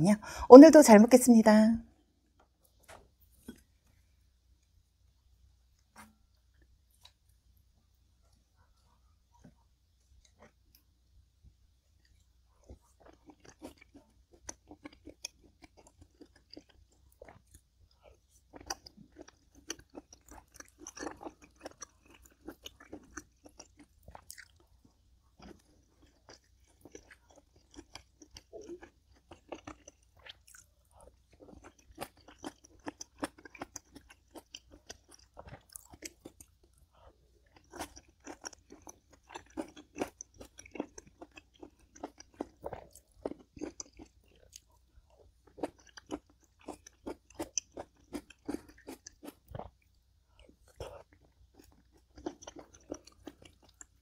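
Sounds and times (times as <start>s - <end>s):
person chewing crunchy food: 5.7s - 7.6s, 8.2s - 11.2s, 11.8s - 54.0s.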